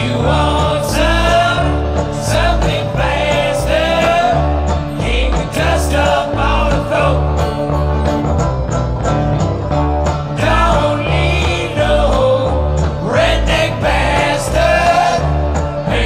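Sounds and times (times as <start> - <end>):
bluegrass string band music: 0.0 - 16.0
upright bass: 0.0 - 16.0.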